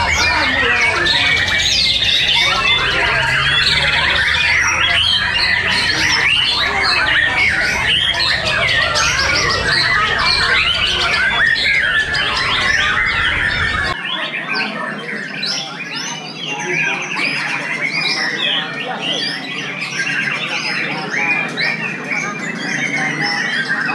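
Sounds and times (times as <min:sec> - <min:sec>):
caged birds singing: 0:00.0 - 0:23.9.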